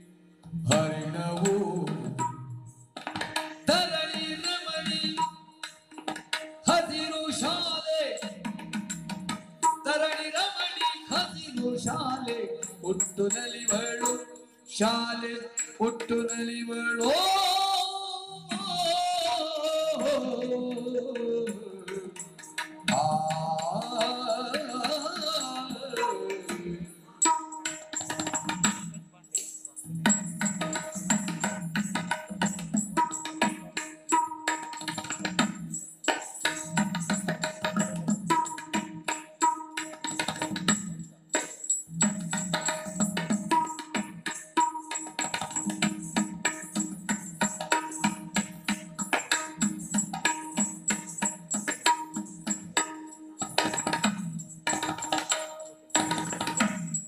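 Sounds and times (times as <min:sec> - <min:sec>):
drums in fast rhythm: 0:00.6 - 0:18.0, 0:22.1 - 0:57.0.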